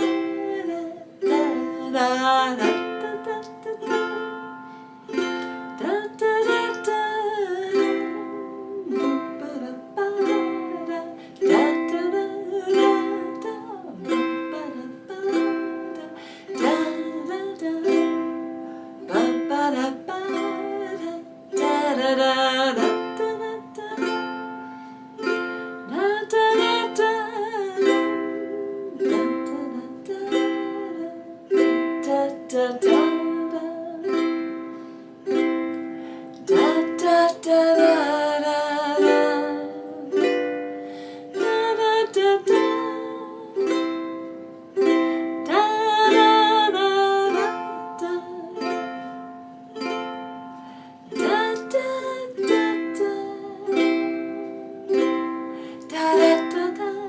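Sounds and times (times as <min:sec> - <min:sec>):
woman singing: 0:00.0 - 0:50.4, 0:51.0 - 0:57.0
ukulele strumming: 0:00.0 - 0:57.0.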